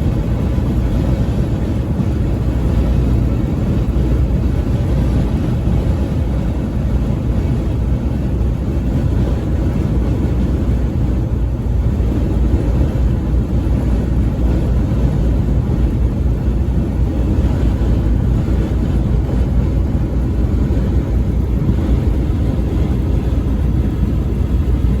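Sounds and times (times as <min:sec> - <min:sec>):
car driving at highway speed: 0:00.0 - 0:25.0.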